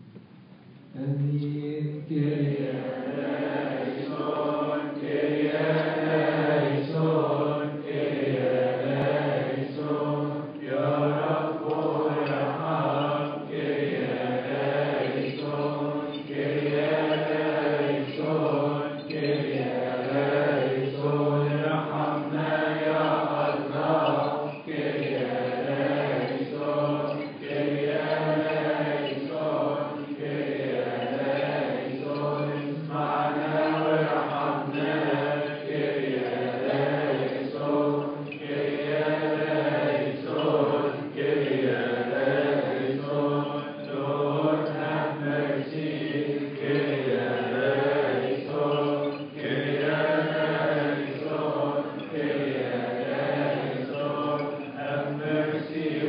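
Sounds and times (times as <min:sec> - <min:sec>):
group chanting a hymn: 0:00.9 - 0:56.0.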